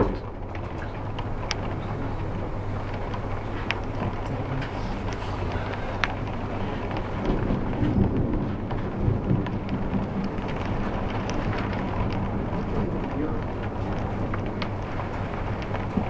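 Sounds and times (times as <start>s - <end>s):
heavy rain: 0.0s - 16.0s
low thunder rumble: 0.0s - 16.0s
raindrop tapping on window glass: 0.0s - 16.0s.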